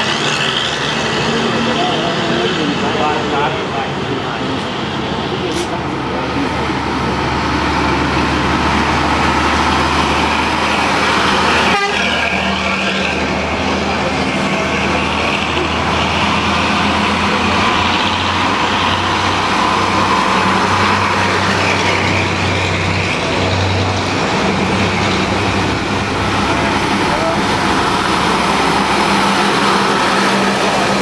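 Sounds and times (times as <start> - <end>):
truck engines droning: 0.0 - 31.0.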